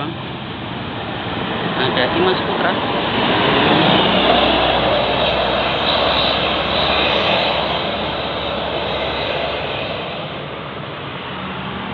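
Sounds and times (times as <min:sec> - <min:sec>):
bus passing by: 0:00.0 - 0:11.9.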